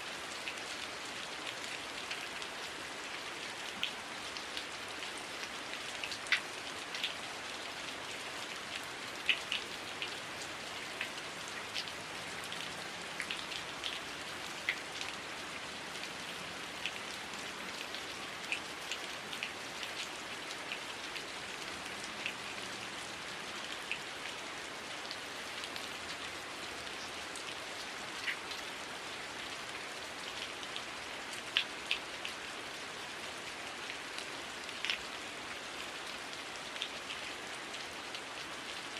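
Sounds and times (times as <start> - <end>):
raindrops ticking close by: 0.3 - 24.4, 25.0 - 32.8, 33.5 - 35.4.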